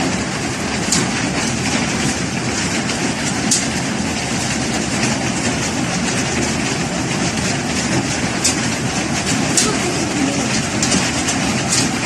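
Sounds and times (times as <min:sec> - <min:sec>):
heavy hail falling: 0:00.0 - 0:12.0.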